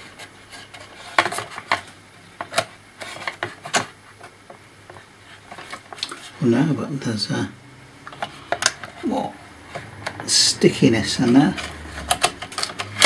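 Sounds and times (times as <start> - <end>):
hands clicking and scraping circuit board: 0.0 - 6.4, 8.1 - 10.4, 11.1 - 13.0.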